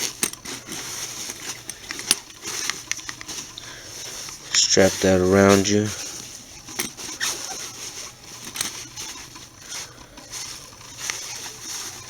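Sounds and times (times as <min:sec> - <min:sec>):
strap rustling and scraping: 0:00.0 - 0:12.0.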